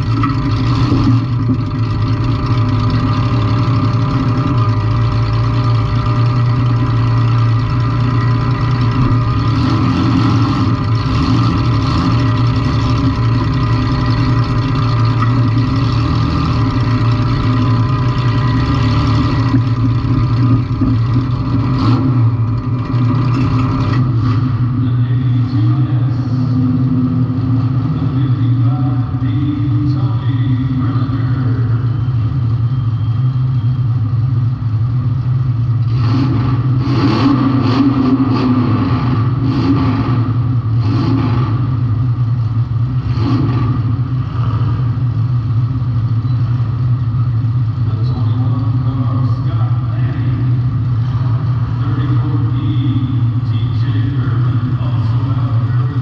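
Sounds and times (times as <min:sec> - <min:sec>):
car engine running loud: 0:00.0 - 0:56.0.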